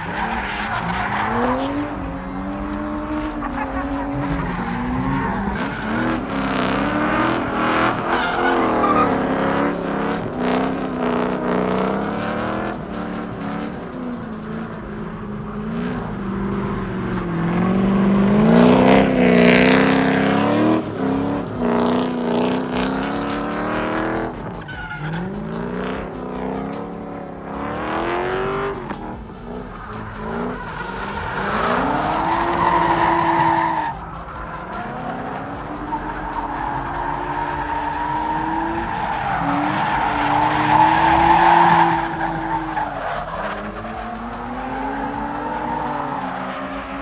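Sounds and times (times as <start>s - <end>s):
car engines revving hard: 0.0s - 47.0s.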